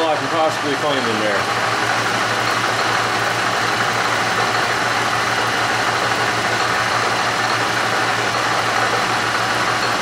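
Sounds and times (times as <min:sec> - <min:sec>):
end mill cutting metal: 0:00.0 - 0:10.0
milling machine hum: 0:00.0 - 0:10.0.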